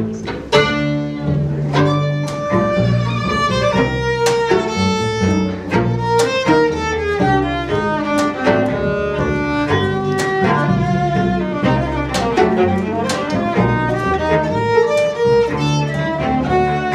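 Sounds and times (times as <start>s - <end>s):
string quartet playing: 0.0s - 16.9s.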